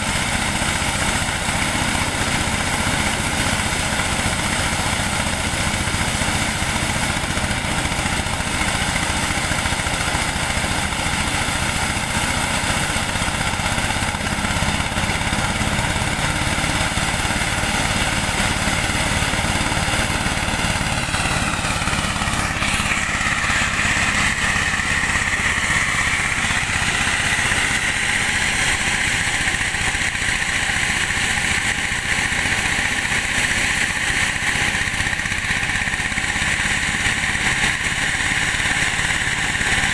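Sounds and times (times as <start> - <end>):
engine-driven corn sheller running: 0.0 - 39.9.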